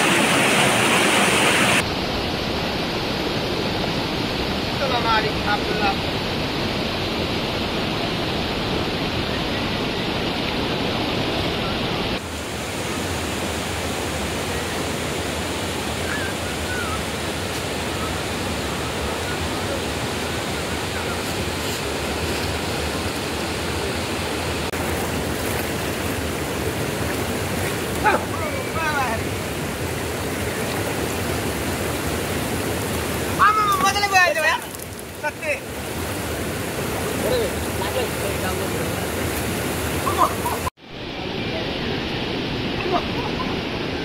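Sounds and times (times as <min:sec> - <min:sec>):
river rushing over rocks: 0:00.0 - 0:44.0.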